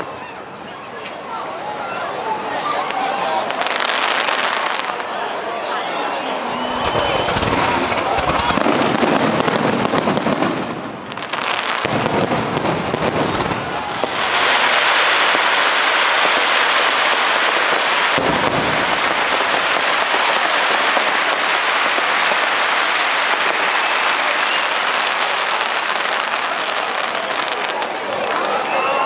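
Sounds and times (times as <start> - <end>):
dense fireworks hiss: 0.0 - 29.0
fireworks pops and crackles: 2.6 - 5.3, 6.6 - 29.0.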